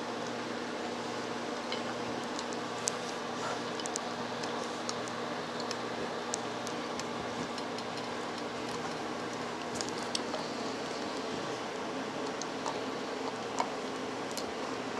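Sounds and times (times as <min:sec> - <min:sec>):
room hum: 0:00.0 - 0:14.9.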